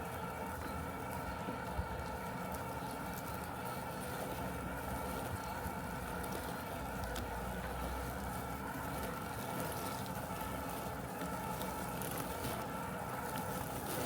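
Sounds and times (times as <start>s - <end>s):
robotic lawn mower running: 0.0s - 14.0s.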